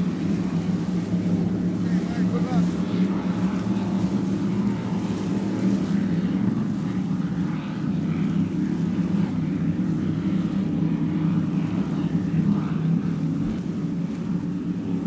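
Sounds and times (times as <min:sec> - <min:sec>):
powerboat engines at speed: 0:00.0 - 0:15.0.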